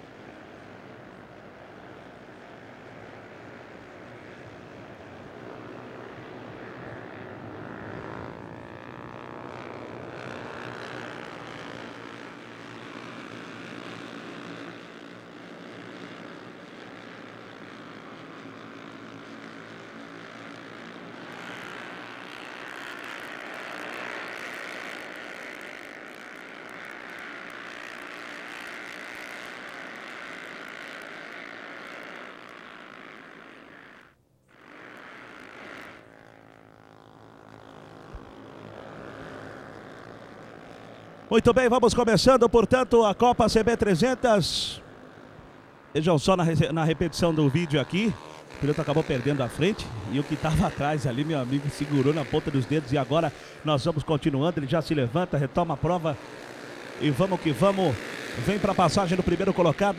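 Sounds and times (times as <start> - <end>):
racing motorcycles at high revs: 0.0 - 59.9.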